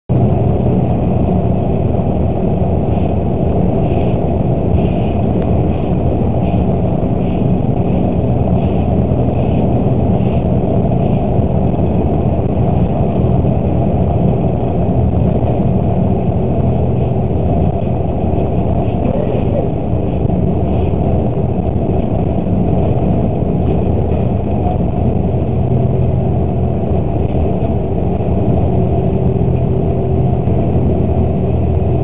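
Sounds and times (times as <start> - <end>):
bus engine drone: 0.1 - 32.0
road noise: 0.1 - 32.0.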